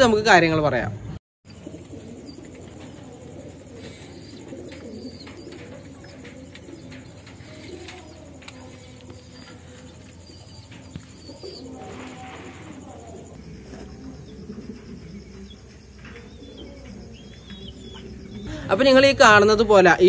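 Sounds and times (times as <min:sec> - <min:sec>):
pigeon cooing: 0:01.5 - 0:18.6.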